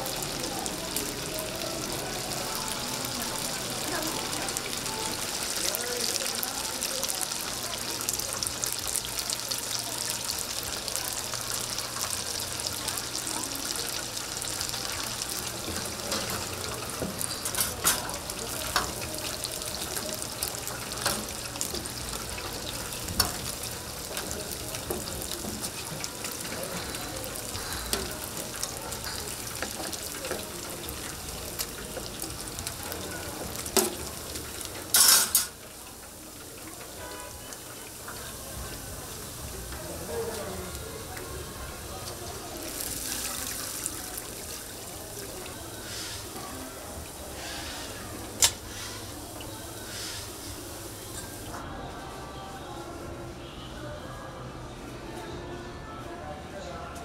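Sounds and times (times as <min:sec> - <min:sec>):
chicken sizzling in hot oil: 0:00.0 - 0:51.6.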